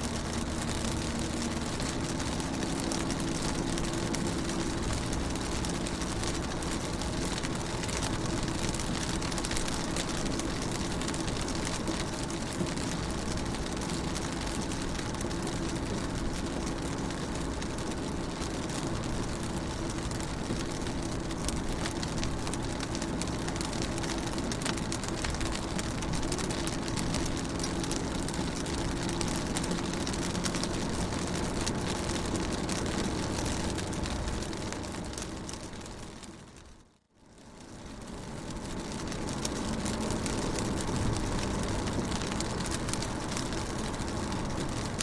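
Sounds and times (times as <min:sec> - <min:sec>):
rain on car window: 0:00.0 - 0:45.0.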